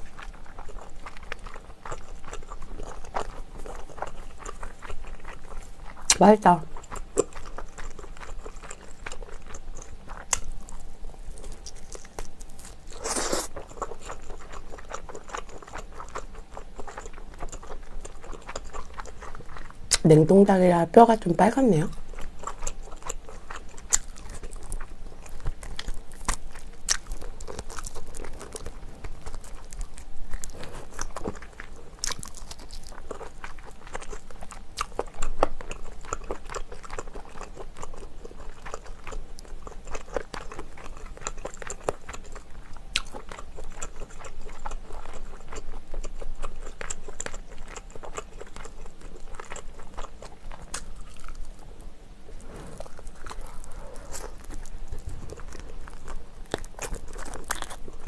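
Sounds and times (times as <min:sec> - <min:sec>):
chewing and biting: 0:00.0 - 0:20.0, 0:21.8 - 0:58.0.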